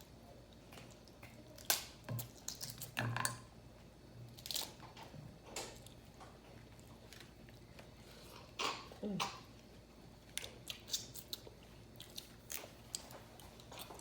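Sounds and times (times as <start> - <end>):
close chewing and mouth sounds: 0.0 - 3.0, 4.2 - 14.0.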